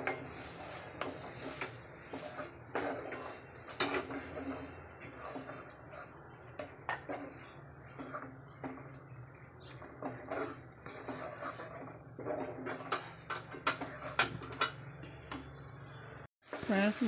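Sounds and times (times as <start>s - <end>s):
spatula scraping a frying pan: 0.0s - 15.5s.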